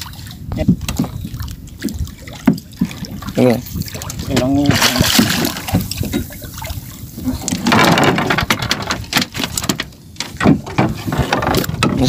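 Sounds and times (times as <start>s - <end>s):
water splashing and dripping: 0.0s - 10.7s.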